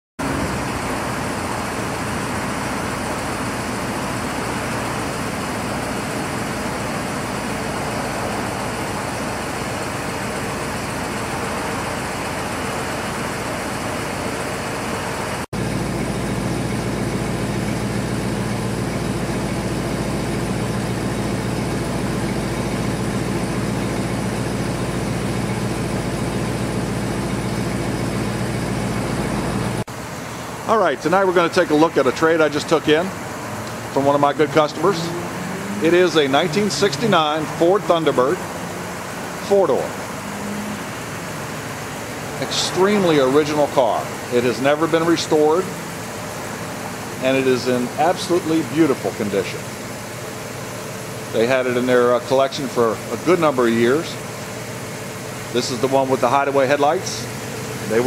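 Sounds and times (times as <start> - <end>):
car engine running: 0.2 - 58.0
engine idling with low hum: 0.2 - 58.0.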